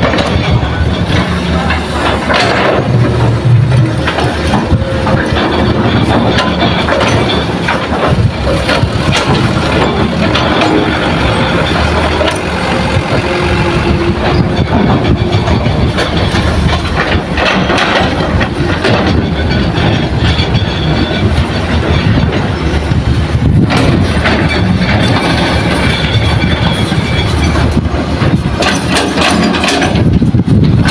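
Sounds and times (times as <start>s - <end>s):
excavator diesel engine running: 0.0s - 30.9s
metal rattling and clanking: 0.0s - 30.9s.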